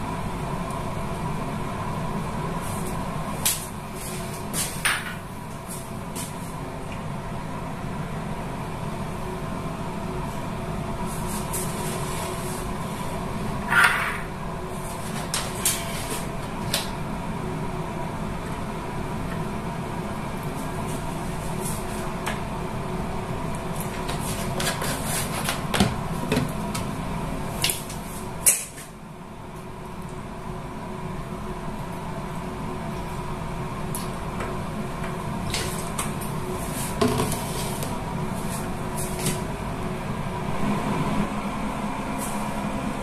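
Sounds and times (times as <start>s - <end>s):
steady mechanical hum: 0.0s - 43.0s.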